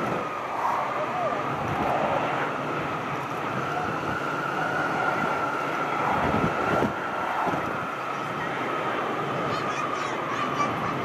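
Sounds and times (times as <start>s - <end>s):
jet engines whining: 0.0s - 11.0s
wind buffeting microphone: 0.0s - 11.0s.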